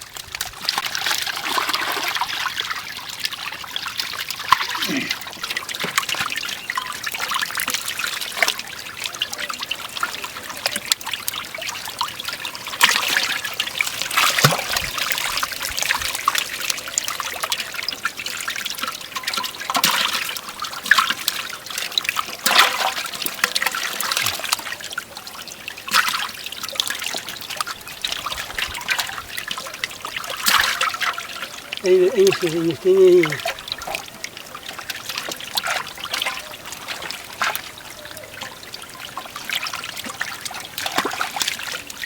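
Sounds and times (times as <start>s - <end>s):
water splashing and trickling: 0.0s - 42.0s.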